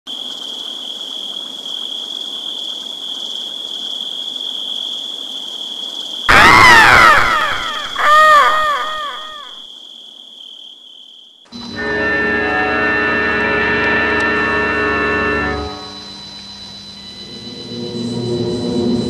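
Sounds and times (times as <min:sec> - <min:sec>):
high-pitched insect drone: 0:00.2 - 0:12.6, 0:13.3 - 0:19.0.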